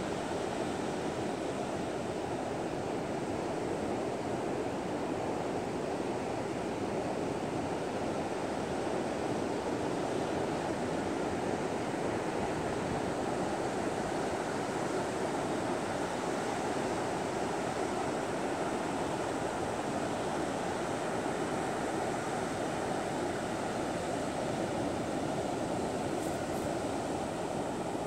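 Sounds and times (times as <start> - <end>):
surf washing up beach: 0.0 - 28.0.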